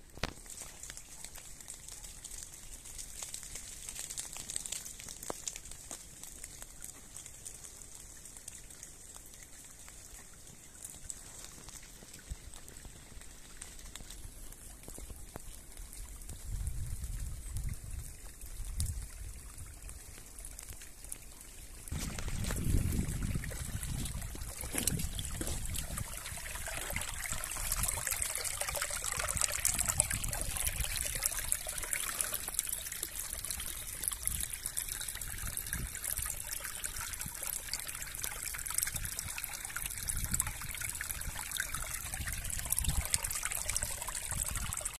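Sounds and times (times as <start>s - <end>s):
stream babbling over stones: 0.0s - 45.0s.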